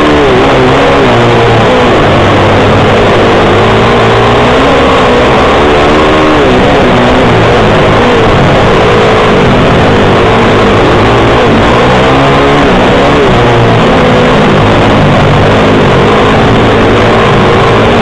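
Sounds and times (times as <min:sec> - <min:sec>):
pit bike engines revving: 0:00.0 - 0:18.0.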